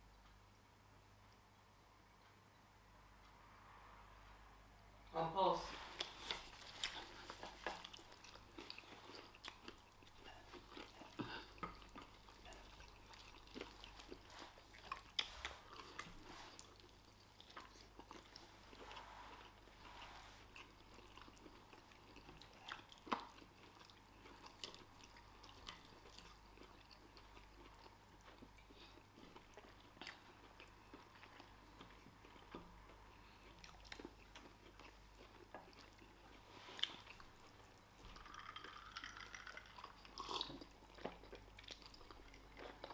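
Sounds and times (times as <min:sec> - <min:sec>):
people chewing: 0:05.7 - 0:42.9.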